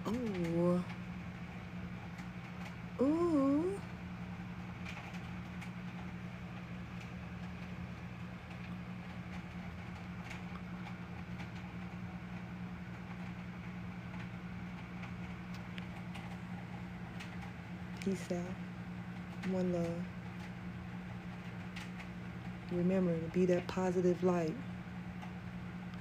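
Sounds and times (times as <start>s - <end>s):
steady low machine hum: 0.0s - 26.0s.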